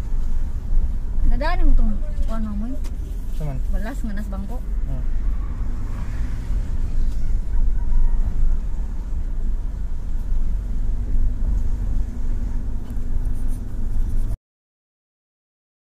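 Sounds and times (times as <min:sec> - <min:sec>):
car engine and tyre rumble: 0:00.0 - 0:14.4.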